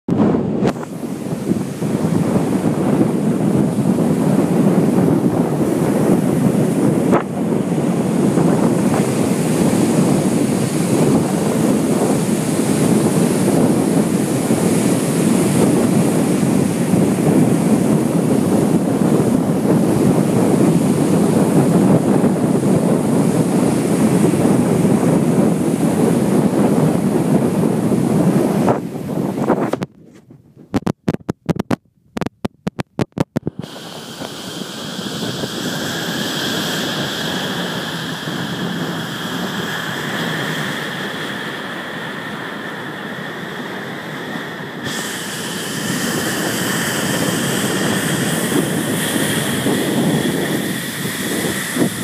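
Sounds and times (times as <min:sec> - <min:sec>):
surf breaking on beach: 0:00.1 - 0:31.8, 0:32.7 - 0:52.0
wind on microphone: 0:00.1 - 0:52.0.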